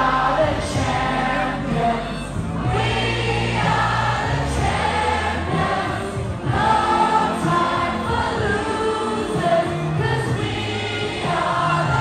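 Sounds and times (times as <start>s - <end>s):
sustained bass notes: 0.0s - 12.0s.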